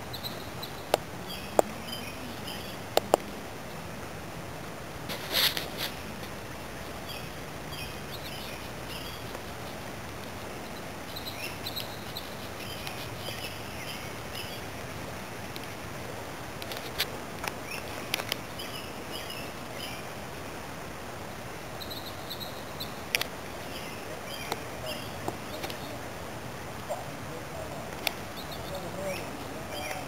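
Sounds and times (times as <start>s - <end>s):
small birds chirping: 0.0s - 3.8s, 5.1s - 15.8s, 16.7s - 20.6s, 21.6s - 30.0s
creek water flowing: 0.0s - 30.0s.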